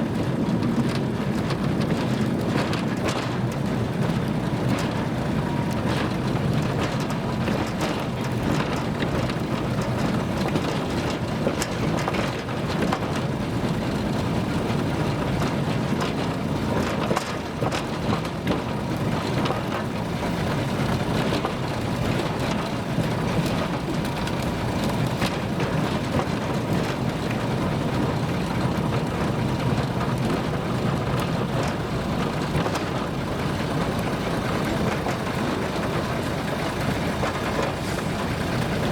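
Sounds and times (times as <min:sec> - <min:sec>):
train rumbling and rattling: 0:00.0 - 0:38.9.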